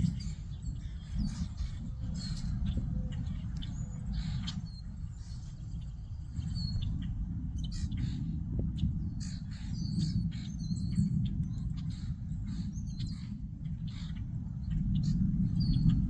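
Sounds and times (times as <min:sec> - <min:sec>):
birds chirping: 0:00.0 - 0:16.0
low rumble: 0:00.0 - 0:16.0.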